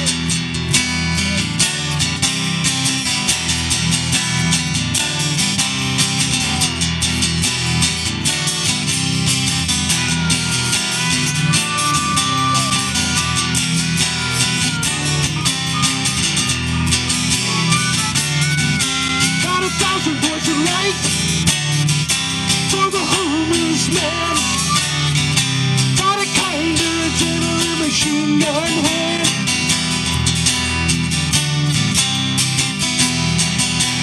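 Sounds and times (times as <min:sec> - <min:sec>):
held high guitar lead note: 0:00.0 - 0:31.3
live rock band playing: 0:00.0 - 0:34.0.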